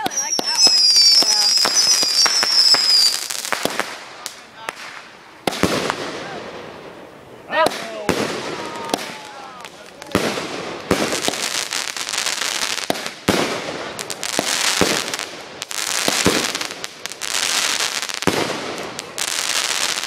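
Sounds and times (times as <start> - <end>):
crackling hiss of bursting shells: 0.0 - 20.0
fireworks bangs: 0.0 - 20.0.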